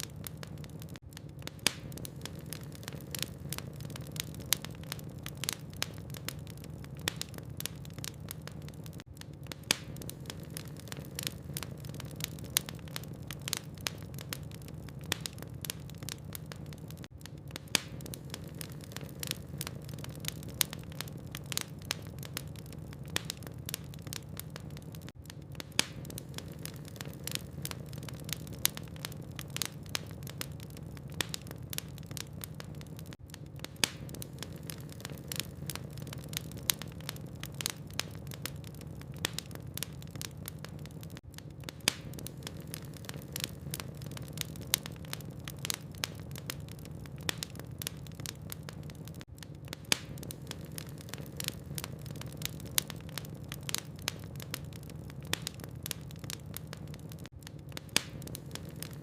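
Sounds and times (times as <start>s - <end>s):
logs crackling in fireplace: 0.0s - 59.0s.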